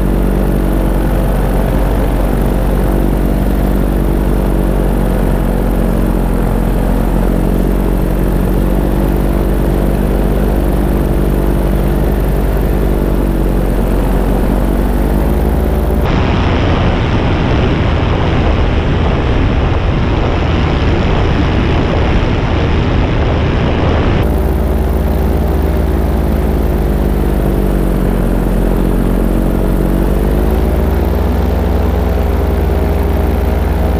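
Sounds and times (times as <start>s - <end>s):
paramotor engine and propeller: 0.0s - 33.9s
rough drone with wind: 0.0s - 33.9s.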